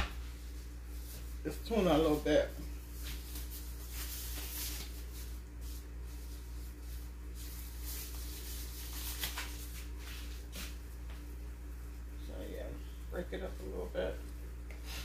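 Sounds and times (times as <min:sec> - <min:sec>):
low electrical hum: 0:00.0 - 0:15.0
plastic gloves rustling: 0:00.2 - 0:15.0.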